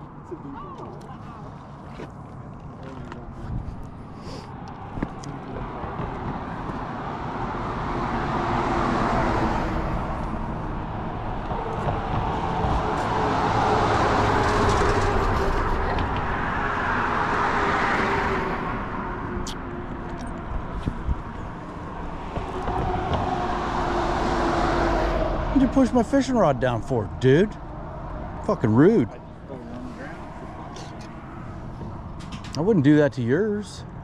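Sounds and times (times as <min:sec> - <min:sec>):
engine passing by: 0:04.3 - 0:33.0.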